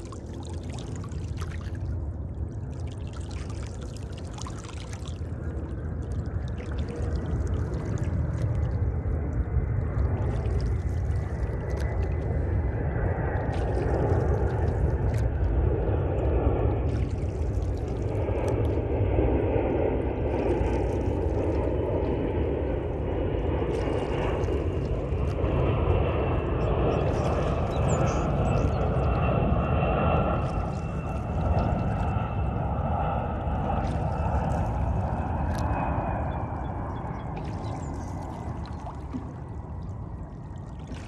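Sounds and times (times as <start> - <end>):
low steady rumble: 0.0 - 41.0
oars pulling through water: 0.0 - 41.0.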